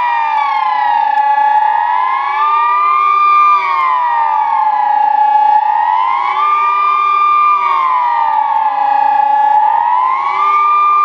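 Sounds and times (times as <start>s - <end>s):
sirens rising and falling: 0.0s - 11.0s.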